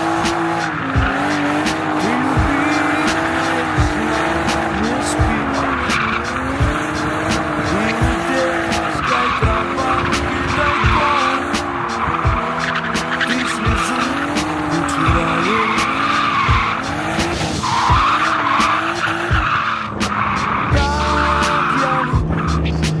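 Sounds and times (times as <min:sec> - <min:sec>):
car engine revving: 0:00.0 - 0:23.0
slow beat music: 0:00.0 - 0:23.0
tyres squealing: 0:00.0 - 0:23.0.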